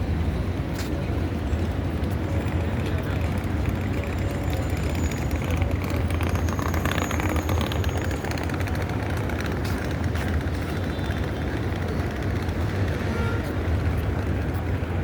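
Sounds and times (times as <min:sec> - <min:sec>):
cars and buses passing: 0:00.0 - 0:15.0.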